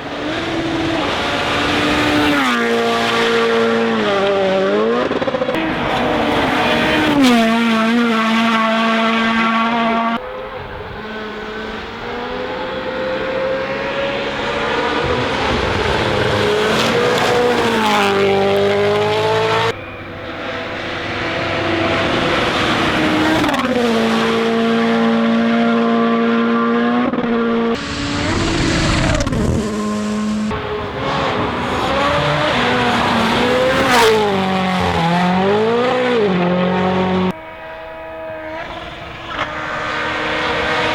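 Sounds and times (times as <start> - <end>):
rally car engines at full throttle: 0.0 - 40.9.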